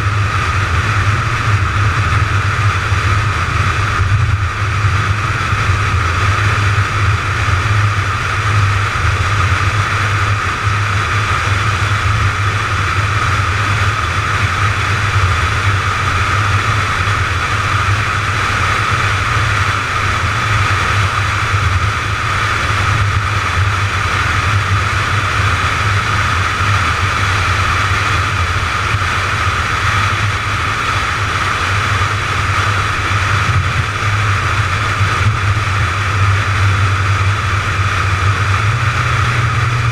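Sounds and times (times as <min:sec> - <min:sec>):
car engine drone: 0:00.0 - 0:39.9
road and wind noise: 0:00.0 - 0:39.9.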